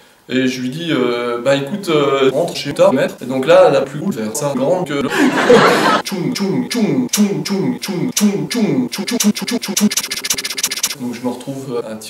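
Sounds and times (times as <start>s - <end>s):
looped man's voice fragment: 0.3s - 11.8s.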